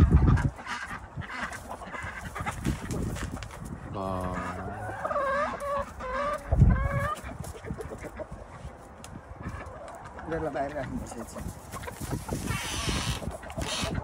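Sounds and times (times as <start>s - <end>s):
chickens clucking and calling: 0.0s - 14.0s.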